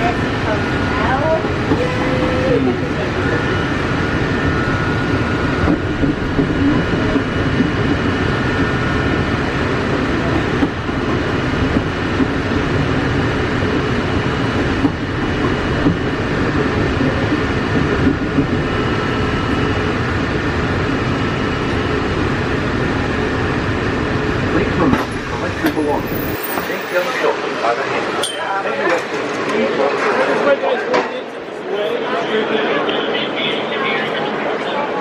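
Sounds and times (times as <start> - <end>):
train rumbling: 0.0 - 35.0.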